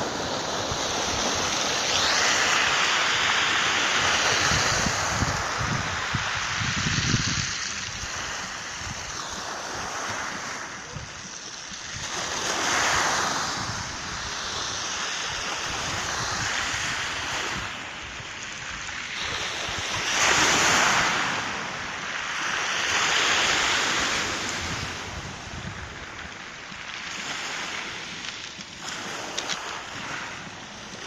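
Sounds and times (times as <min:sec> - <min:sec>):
wind buffeting microphone: 0:00.0 - 0:22.1, 0:23.0 - 0:31.0
waves breaking on shingle beach: 0:00.0 - 0:31.0.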